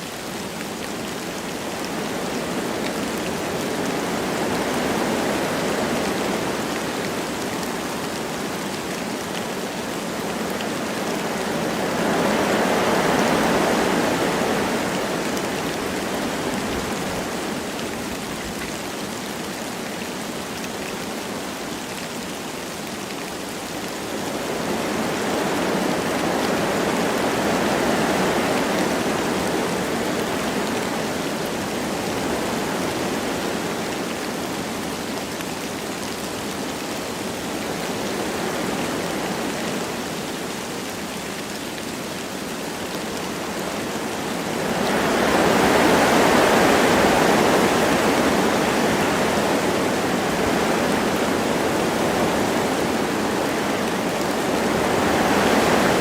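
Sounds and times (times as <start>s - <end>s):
light rain falling: 0.0s - 56.0s
wind through trees: 0.0s - 56.0s.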